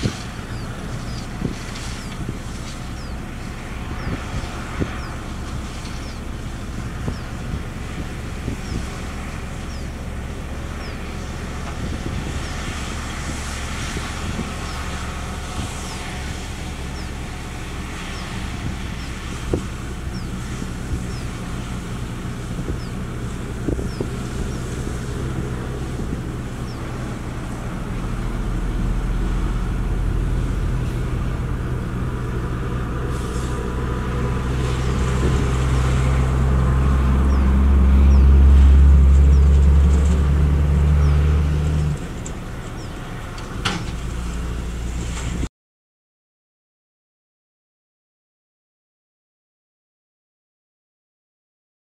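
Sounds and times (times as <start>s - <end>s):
heavy diesel engines running: 0.0s - 45.5s.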